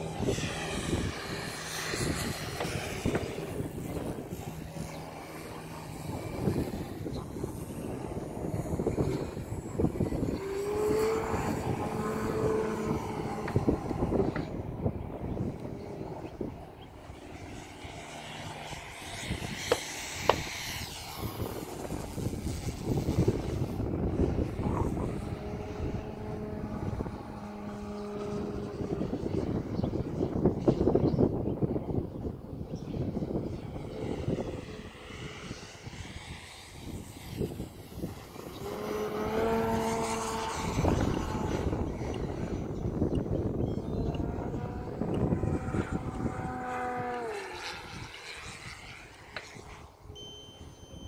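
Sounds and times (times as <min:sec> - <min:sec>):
electric propeller whirring: 0:00.0 - 0:51.0
steady humming tone: 0:00.0 - 0:51.0
wind rumbling on microphone: 0:00.0 - 0:51.0.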